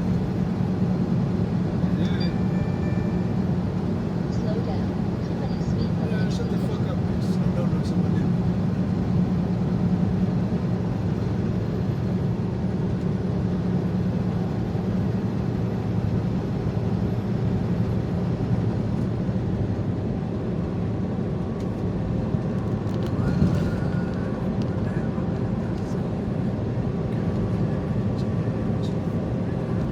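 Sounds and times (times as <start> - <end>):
road and wind noise: 0.0 - 29.9
truck diesel engine drone: 0.0 - 29.9.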